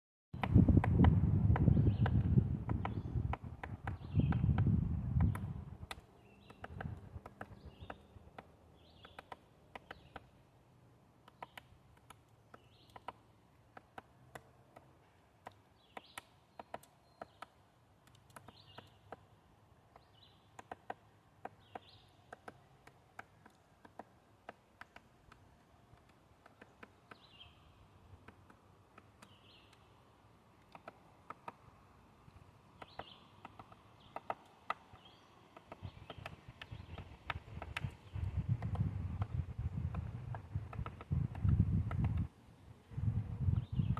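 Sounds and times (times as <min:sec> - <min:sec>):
woodpecker pecking wood: 0:00.4 - 0:42.4.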